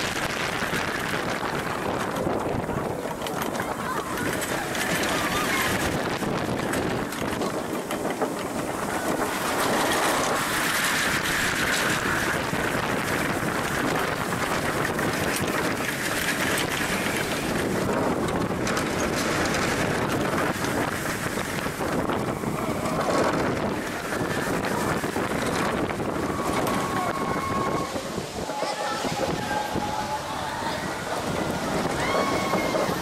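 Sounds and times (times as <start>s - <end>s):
roller coaster wheels rumbling: 0.0s - 33.0s
wind buffeting camera: 0.0s - 33.0s.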